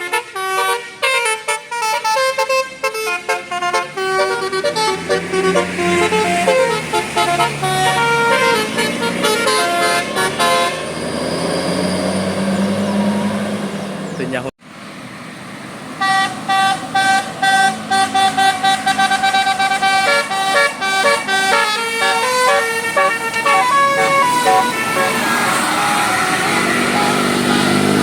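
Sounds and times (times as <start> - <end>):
bus horn playing melody: 0.0 - 11.0, 16.0 - 28.0.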